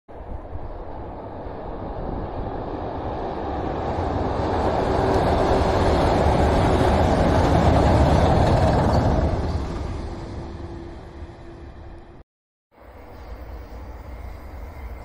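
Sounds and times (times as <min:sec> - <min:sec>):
train rumbling across bridge: 0:00.1 - 0:12.2, 0:12.8 - 0:15.0.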